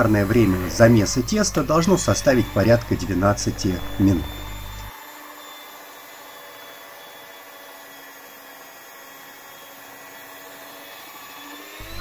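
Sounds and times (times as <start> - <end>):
hand mixer motor whirring: 0.0 - 12.0.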